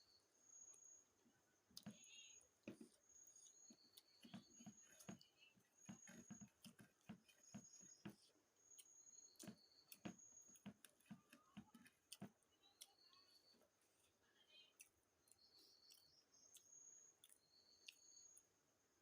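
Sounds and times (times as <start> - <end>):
chewing and mouth clicks: 1.7 - 18.5.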